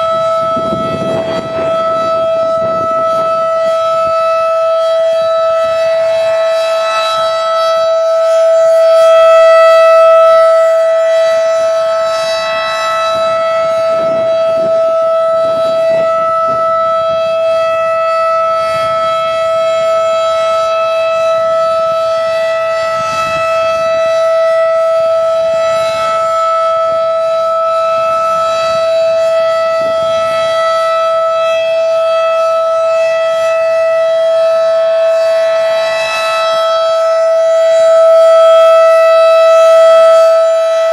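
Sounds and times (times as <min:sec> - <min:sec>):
outdoor warning siren steady tone: 0:00.0 - 0:40.9.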